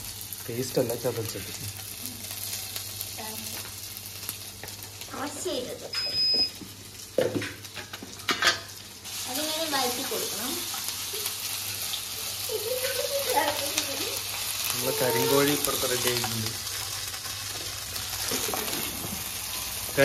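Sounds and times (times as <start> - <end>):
hot oil sizzling in pan: 0.0 - 20.0.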